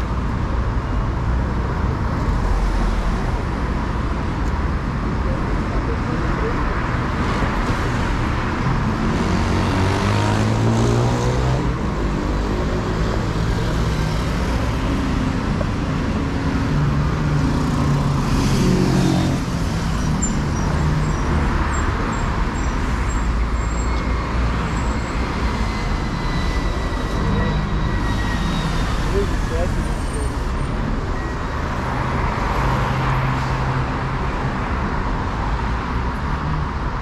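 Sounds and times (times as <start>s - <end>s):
city street traffic: 0.0s - 37.0s.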